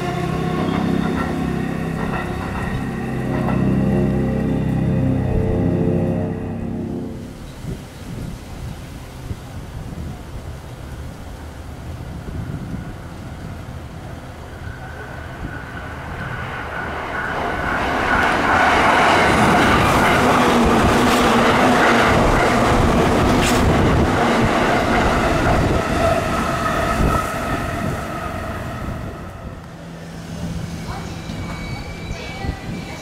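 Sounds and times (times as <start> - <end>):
train whine: 0.0 - 8.0, 11.4 - 33.0
electric train rumble: 0.0 - 33.0.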